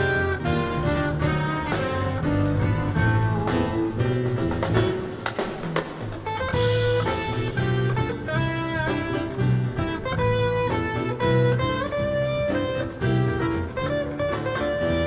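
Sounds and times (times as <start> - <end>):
drum kit: 0.0 - 15.0
electric bass line: 0.0 - 15.0
electric guitar: 0.0 - 15.0
keyboard notes: 0.0 - 15.0.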